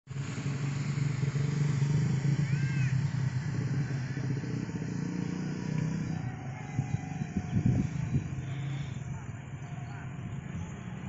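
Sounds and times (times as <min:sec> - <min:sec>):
vehicle engine running: 0:00.1 - 0:11.0.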